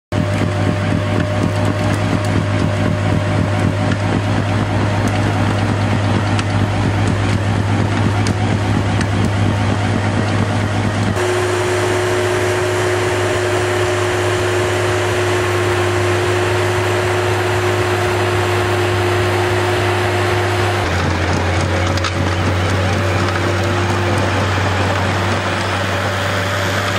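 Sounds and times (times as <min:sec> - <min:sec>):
diesel engine running: 0:00.1 - 0:26.9
snowblower whine: 0:00.1 - 0:26.9.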